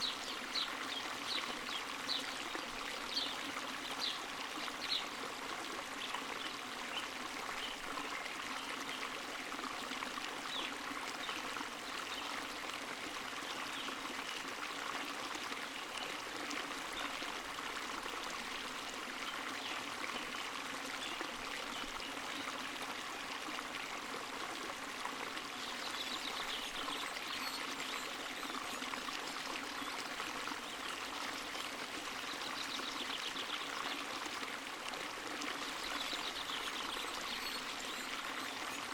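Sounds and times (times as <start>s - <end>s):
stream trickling and gurgling: 0.0s - 38.9s.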